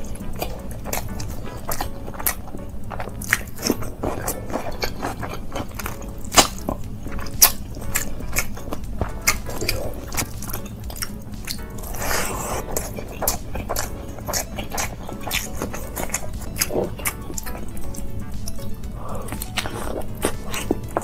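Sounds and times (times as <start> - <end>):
chewing and mouth smacks: 0.0 - 21.0
crunchy bites: 0.0 - 21.0.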